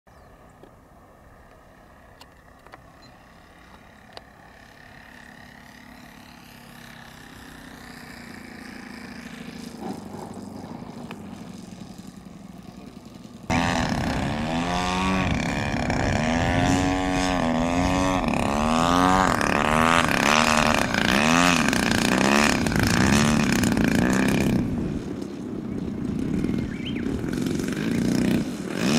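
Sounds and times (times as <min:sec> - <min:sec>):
model airplane engine wavering: 0:00.1 - 0:28.9
faint model plane motor: 0:01.4 - 0:28.9.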